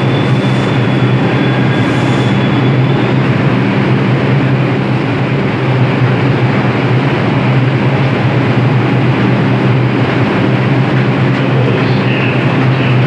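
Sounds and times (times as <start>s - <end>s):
subway train humming at platform: 0.0s - 13.0s.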